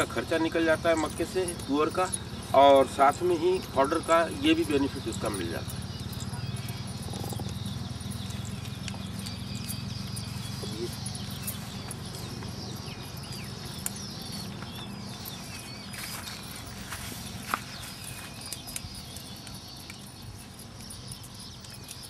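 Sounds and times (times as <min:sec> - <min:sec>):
weeds pulled and soil rustling: 0:00.0 - 0:21.9
steady low hum: 0:00.0 - 0:22.0.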